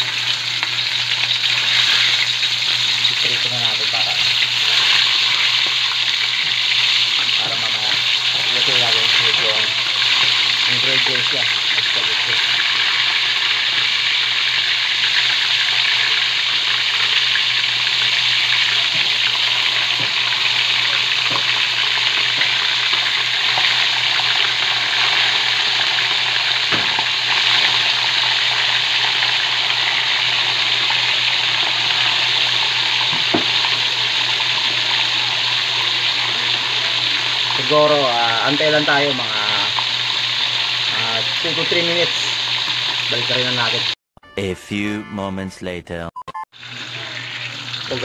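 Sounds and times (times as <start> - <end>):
fish frying in hot oil: 0.0 - 44.0, 46.6 - 48.0.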